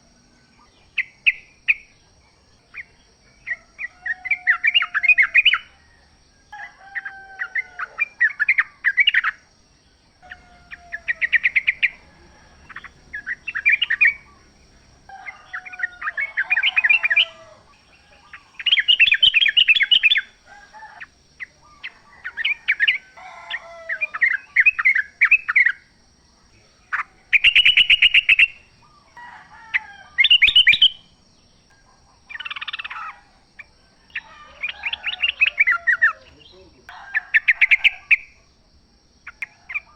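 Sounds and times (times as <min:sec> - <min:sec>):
bulbuls singing: 0:00.0 - 0:39.9.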